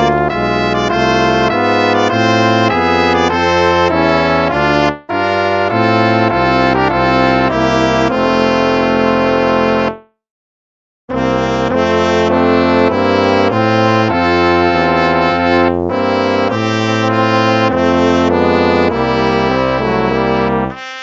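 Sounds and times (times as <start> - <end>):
brass hymn chords: 0.0 - 10.1, 11.1 - 21.0.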